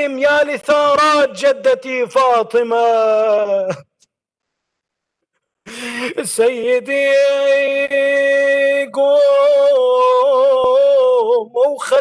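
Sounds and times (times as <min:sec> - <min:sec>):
man chanting a mourning elegy: 0:00.0 - 0:03.8, 0:05.9 - 0:12.0.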